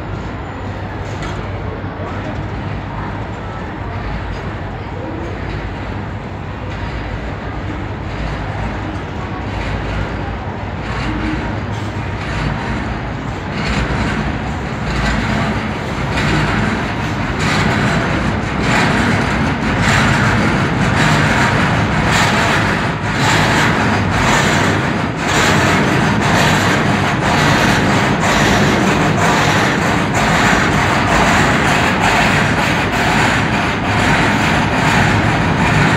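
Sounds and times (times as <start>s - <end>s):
train wheels clacking over joints: 4.1s - 35.9s.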